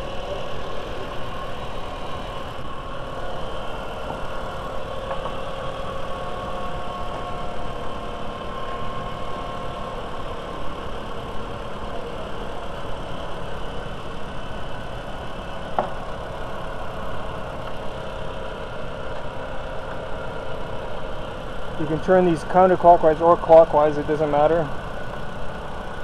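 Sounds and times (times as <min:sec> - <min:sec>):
car engine idling: 0:00.0 - 0:26.0
faint steady whine: 0:00.0 - 0:26.0.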